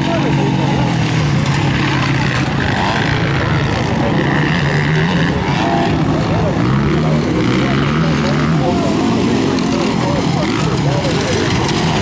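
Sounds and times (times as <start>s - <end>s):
low drone: 0.0s - 12.0s
motocross bike engines revving: 0.0s - 12.0s.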